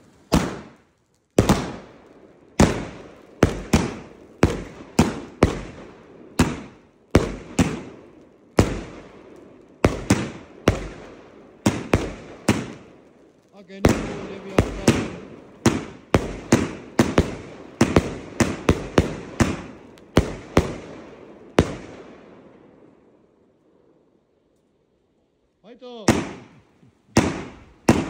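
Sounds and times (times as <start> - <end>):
firework cake bangs: 0.0 - 21.9, 26.0 - 28.0.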